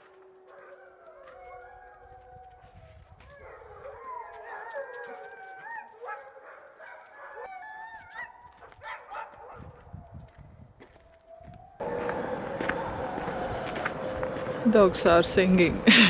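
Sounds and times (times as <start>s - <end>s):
dogs howling together: 0.0s - 10.3s, 11.1s - 14.4s.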